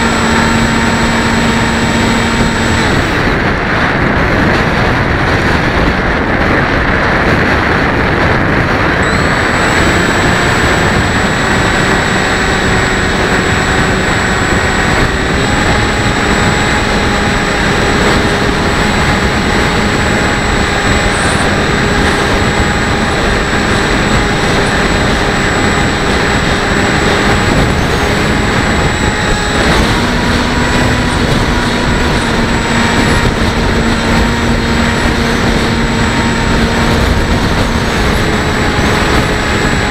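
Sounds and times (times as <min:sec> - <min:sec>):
electric motor whine: 0:00.0 - 0:39.9
wind rush on microphone: 0:00.0 - 0:39.9.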